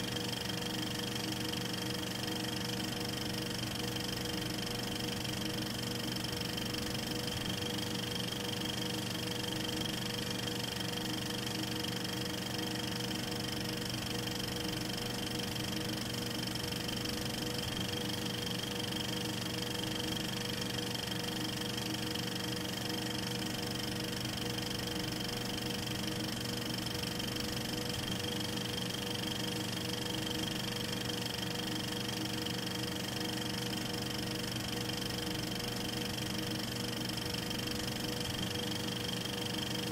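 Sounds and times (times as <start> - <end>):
film projector whirring and rattling: 0.0 - 39.9.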